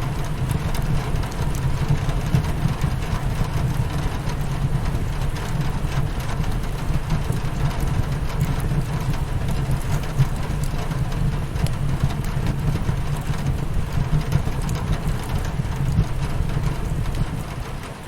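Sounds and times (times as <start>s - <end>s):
rain pattering on window: 0.0s - 18.0s
wood fire crackling: 0.0s - 18.0s.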